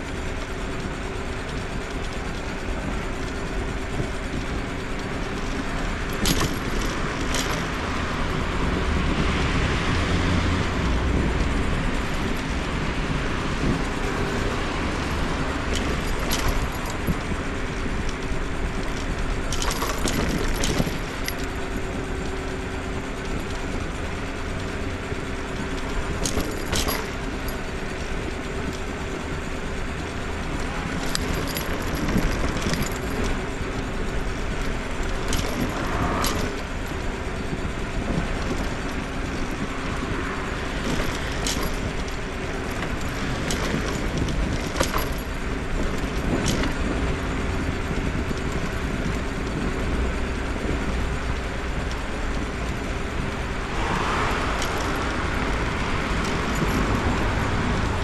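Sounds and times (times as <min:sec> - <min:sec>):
rattles and clicks over bumps: 0:00.0 - 0:58.0
road and wind noise: 0:00.0 - 0:58.0
scooter motor hum: 0:00.0 - 0:58.0.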